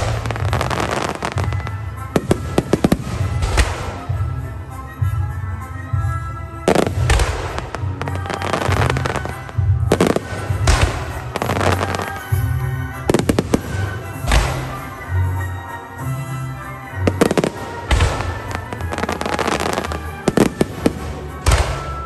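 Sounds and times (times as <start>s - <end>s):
crackling fireworks stars: 0.0s - 5.2s, 6.1s - 22.0s
fireworks bursting: 0.0s - 5.2s, 6.6s - 22.0s
music: 0.0s - 22.0s.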